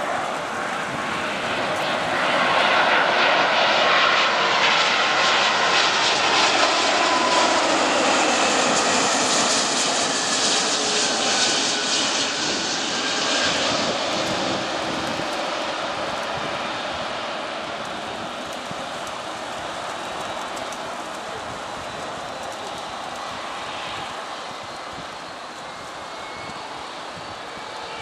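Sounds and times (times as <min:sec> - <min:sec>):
jet airliner flying past: 0:00.0 - 0:28.0.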